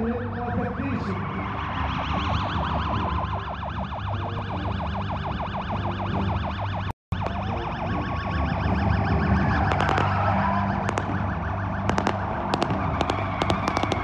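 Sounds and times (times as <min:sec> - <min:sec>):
police siren yelping: 0:00.0 - 0:14.0.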